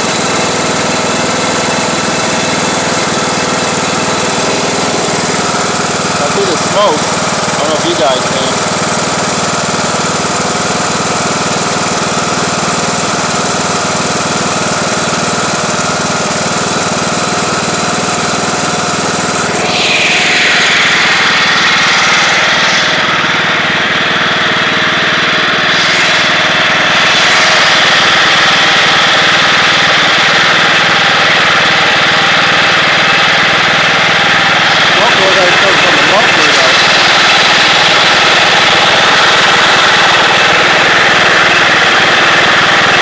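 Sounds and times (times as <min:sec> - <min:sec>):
lawn tractor engine running: 0:00.0 - 0:43.0.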